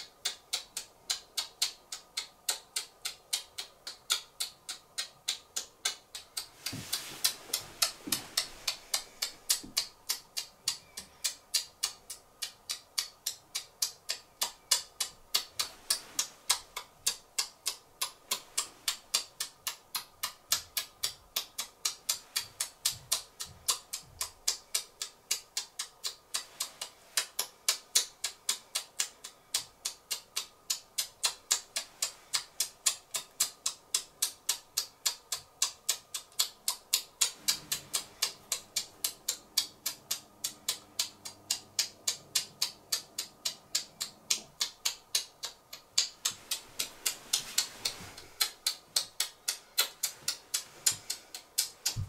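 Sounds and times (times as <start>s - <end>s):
regular sharp ticking: 0.0s - 52.0s.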